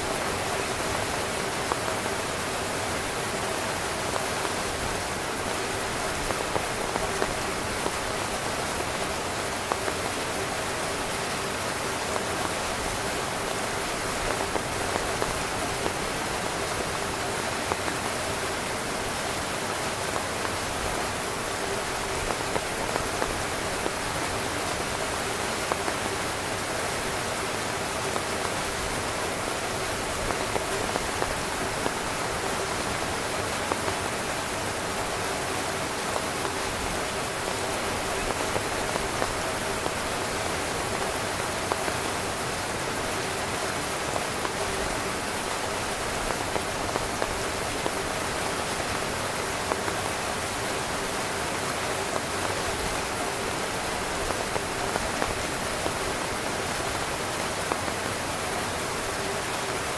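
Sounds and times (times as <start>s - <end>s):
heavy rain on tent fabric: 0.0s - 59.9s.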